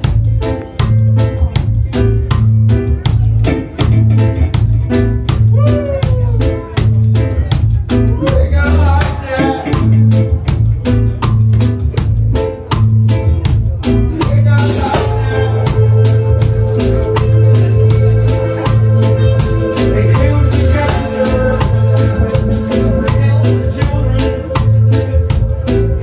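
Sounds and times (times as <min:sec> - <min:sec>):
live reggae band: 0:00.0 - 0:26.0.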